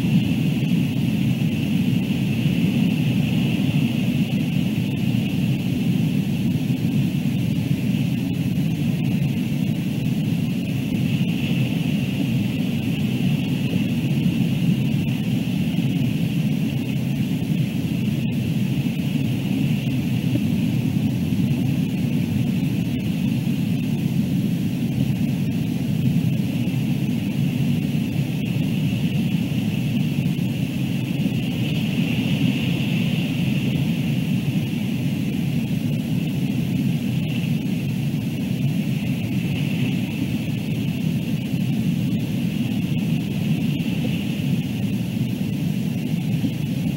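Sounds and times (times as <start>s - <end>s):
low wind rumble: 0.0s - 46.9s.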